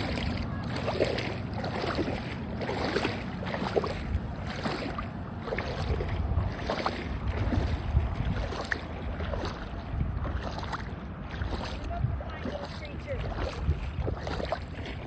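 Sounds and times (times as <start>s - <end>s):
footsteps wading through water: 0.0s - 15.0s
wind rumbling on microphone: 0.0s - 15.0s.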